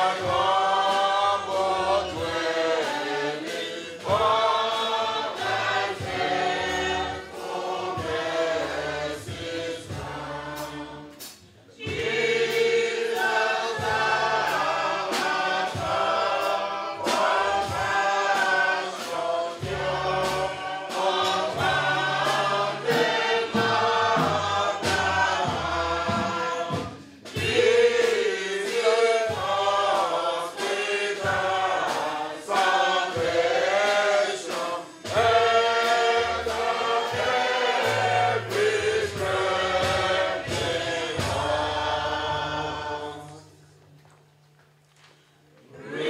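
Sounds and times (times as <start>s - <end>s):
congregation singing a hymn: 0.0s - 43.8s, 45.6s - 46.0s.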